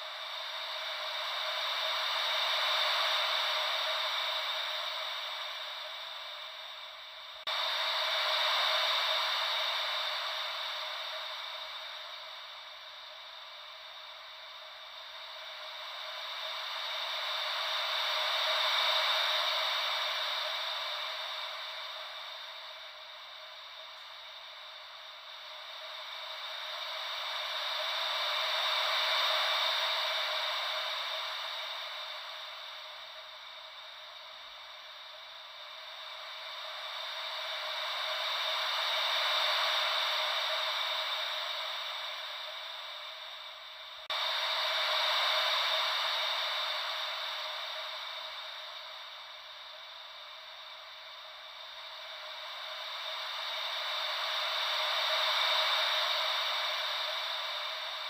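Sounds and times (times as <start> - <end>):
ocean wave white noise: 0.0 - 58.0.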